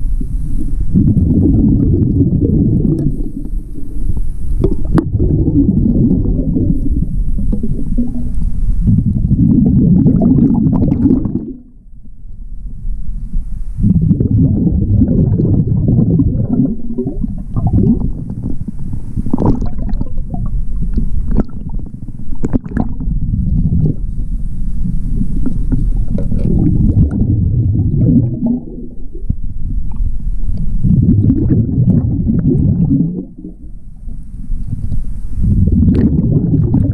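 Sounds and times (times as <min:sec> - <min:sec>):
underwater air bubbling: 0:00.0 - 0:36.9.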